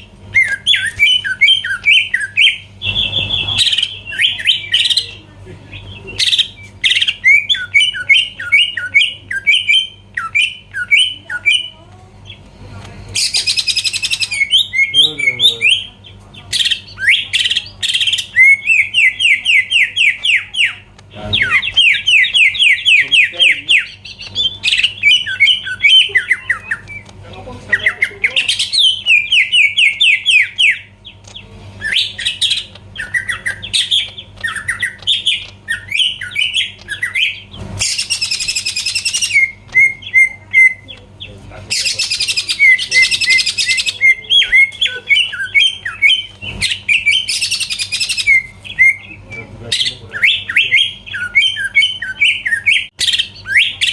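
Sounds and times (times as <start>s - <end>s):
bird chattering song: 0.0s - 53.9s
faint electrical hum: 0.0s - 53.9s.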